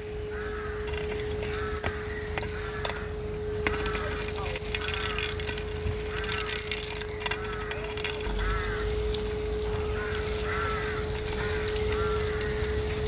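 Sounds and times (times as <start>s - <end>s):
birds calling: 0.1s - 13.0s
faint debris clicks: 0.8s - 13.0s.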